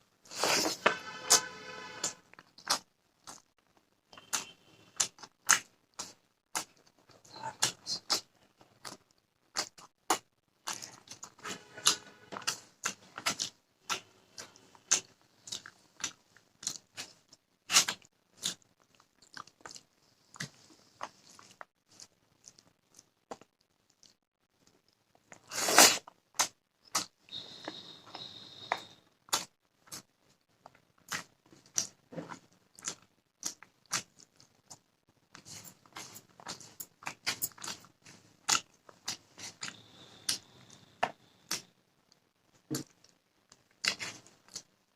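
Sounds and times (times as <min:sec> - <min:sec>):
chewing: 0:02.3 - 0:44.8.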